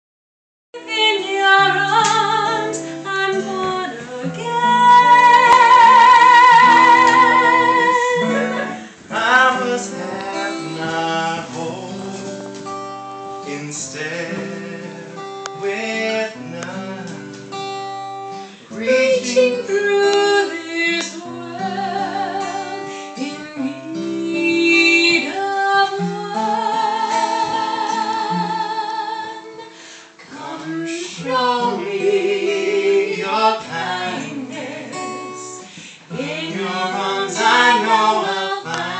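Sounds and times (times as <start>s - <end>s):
high singing voice with vibrato: 0.8s - 12.4s, 18.6s - 38.9s
acoustic guitar chords: 0.8s - 38.9s.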